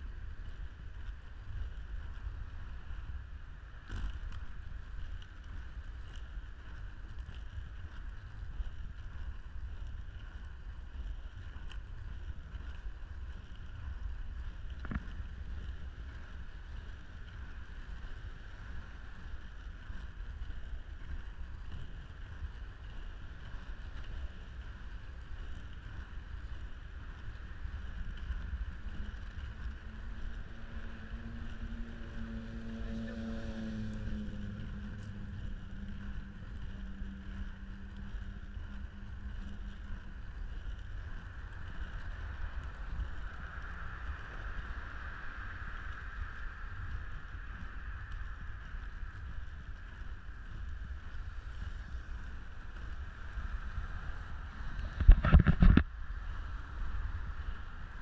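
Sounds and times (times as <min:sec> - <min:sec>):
skate wheels rolling on pavement: 0:00.0 - 0:58.0
wind on microphone: 0:00.0 - 0:58.0.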